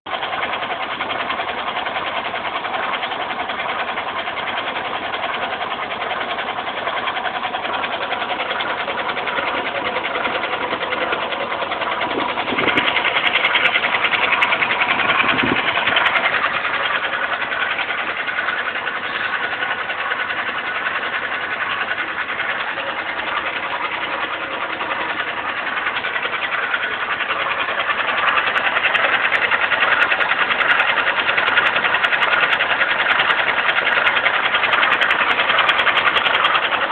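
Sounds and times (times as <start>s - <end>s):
fast mechanical ticking: 0.1s - 36.9s
motorcycle engine running: 0.1s - 36.9s.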